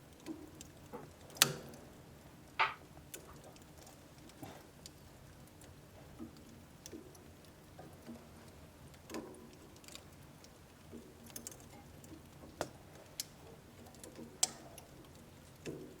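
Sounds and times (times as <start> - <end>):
wood fire crackling in stove: 0.0 - 16.0
faint ticks: 3.1 - 16.0.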